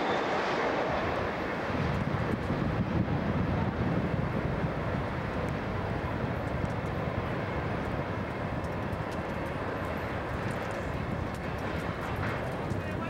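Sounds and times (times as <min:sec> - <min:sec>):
train rumbling through tunnel: 0:00.0 - 0:13.0.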